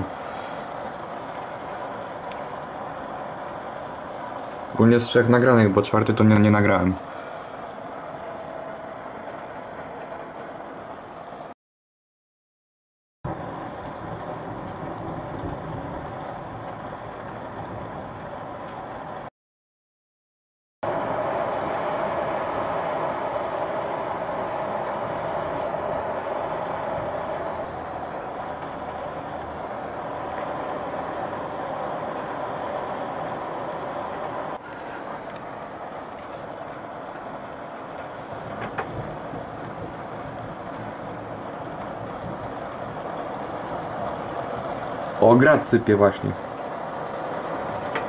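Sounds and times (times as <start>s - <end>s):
heavy rain pouring: 0.0s - 11.5s, 13.3s - 19.3s, 20.8s - 48.0s.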